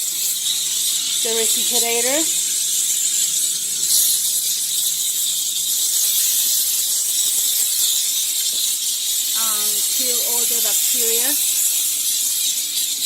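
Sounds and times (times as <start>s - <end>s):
steamer hissing: 0.0s - 13.0s.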